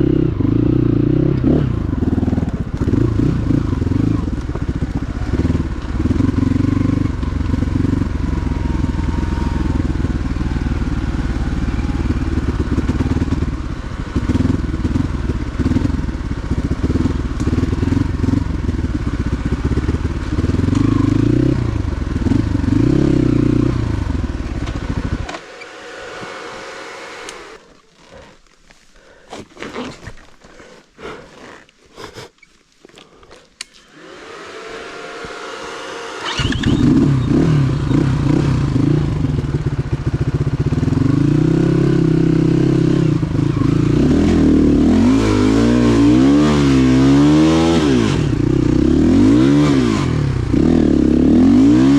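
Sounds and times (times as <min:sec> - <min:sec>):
motorcycle engine revving: 0:00.0 - 0:28.3, 0:33.8 - 0:51.9.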